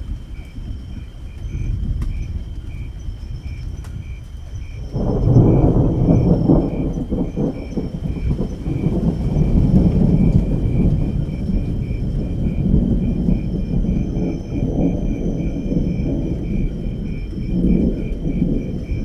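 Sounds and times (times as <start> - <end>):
insects chirping: 0.0 - 19.0
rain: 0.0 - 19.0
thunder rumbling: 0.0 - 19.0.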